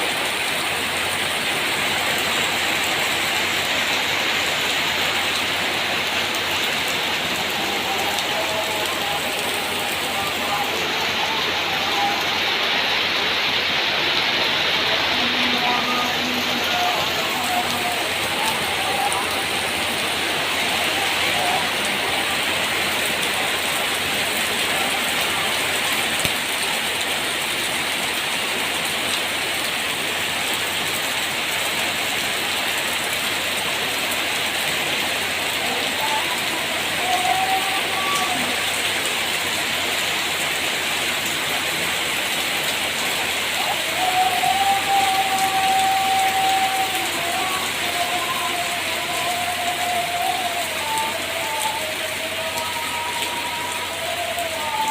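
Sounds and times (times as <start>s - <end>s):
rain pattering: 0.0s - 54.9s
faint voice: 0.1s - 27.4s, 34.2s - 40.0s, 43.0s - 54.9s.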